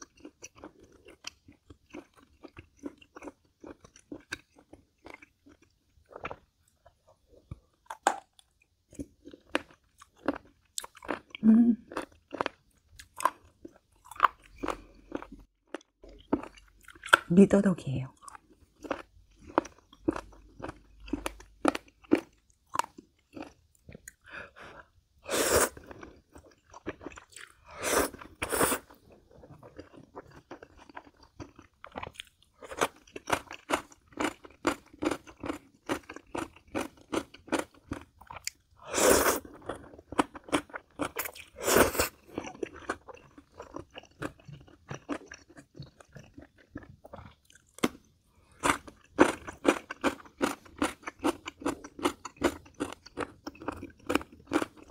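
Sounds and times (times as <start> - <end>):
wet chewing and lip-smacking: 0.0 - 17.3, 18.2 - 25.0, 25.8 - 54.9.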